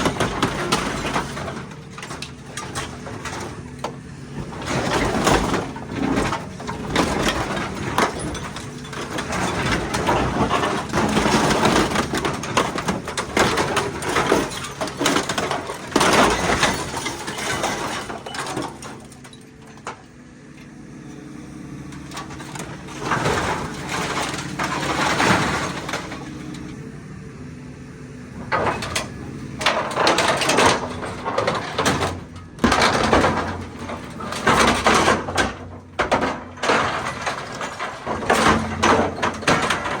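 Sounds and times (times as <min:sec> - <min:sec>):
scrap metal crashing and scraping: 0:00.0 - 0:20.2, 0:21.7 - 0:27.4, 0:28.3 - 0:40.0
heavy machine engine running: 0:00.0 - 0:40.0.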